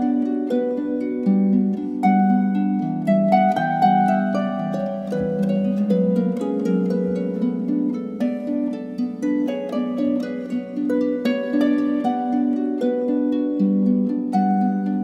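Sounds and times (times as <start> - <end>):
gentle plucked melody: 0.0 - 15.0.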